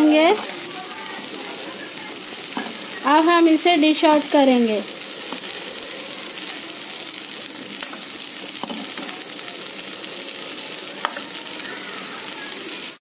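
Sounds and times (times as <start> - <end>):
okra sizzling in oil: 0.0 - 13.0.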